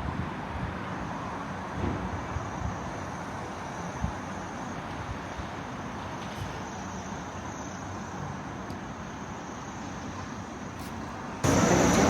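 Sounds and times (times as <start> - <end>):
rumble and hiss background noise: 0.0 - 12.0.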